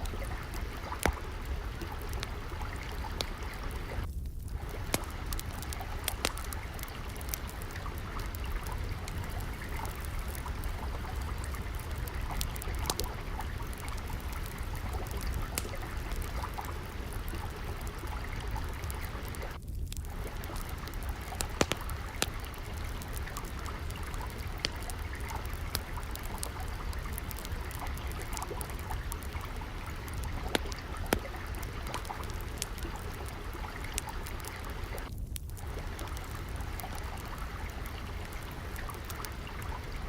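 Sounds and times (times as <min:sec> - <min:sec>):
water trickling: 0:00.0 - 0:40.0
wood fire crackling: 0:00.0 - 0:40.0.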